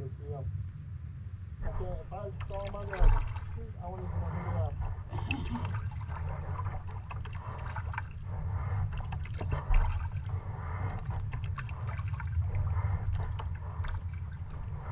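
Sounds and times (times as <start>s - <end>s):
steady low rumble: 0.0s - 14.9s
water splashing and trickling: 1.7s - 14.9s.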